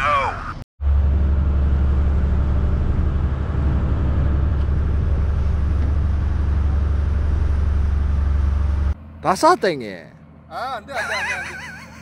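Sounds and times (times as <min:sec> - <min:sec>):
boat engine droning: 0:00.8 - 0:12.0.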